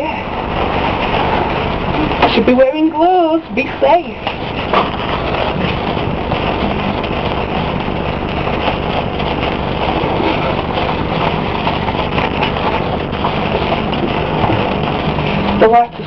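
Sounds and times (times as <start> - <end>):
sparkler fizzing and crackling: 0.0 - 16.0.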